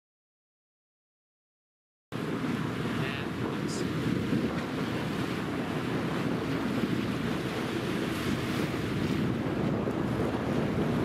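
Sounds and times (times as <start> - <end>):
water rushing along hull: 2.1 - 11.0
wind rumble on microphone: 2.2 - 11.0.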